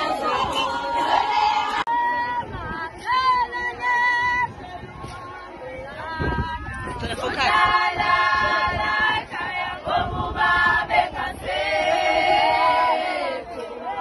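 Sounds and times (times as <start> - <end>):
group singing in chorus: 0.0 - 14.0.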